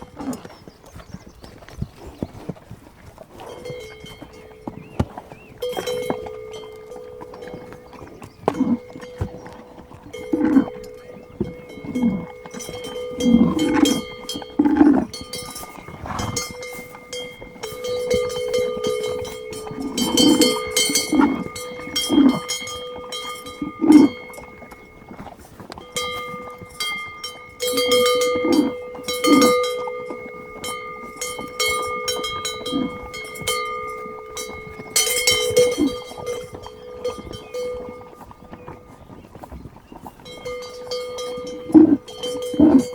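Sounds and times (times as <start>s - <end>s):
livestock bell clanking: 3.4s - 42.9s.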